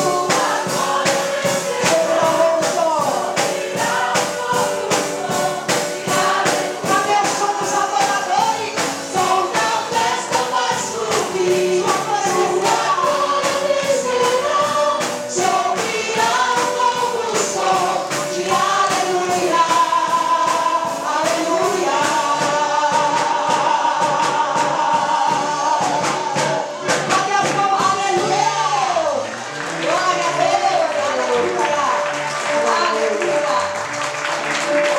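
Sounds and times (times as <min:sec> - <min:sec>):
group singing gospel over band: 0:00.0 - 0:34.9
percussive beat: 0:00.0 - 0:34.9.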